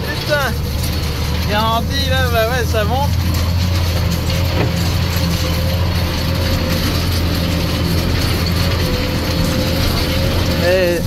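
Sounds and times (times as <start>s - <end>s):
cab rattling: 0.0s - 11.0s
tractor diesel engine running: 0.0s - 11.0s.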